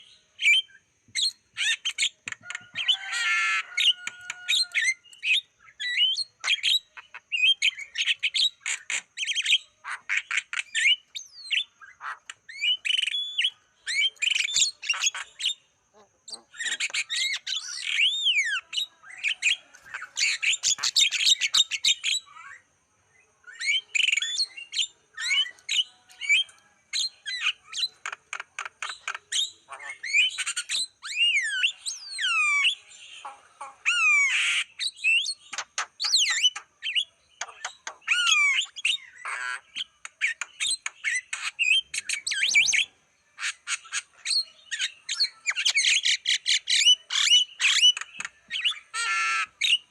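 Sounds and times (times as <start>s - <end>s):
bird singing whistles and squawks: 0.0s - 15.7s, 16.3s - 49.9s.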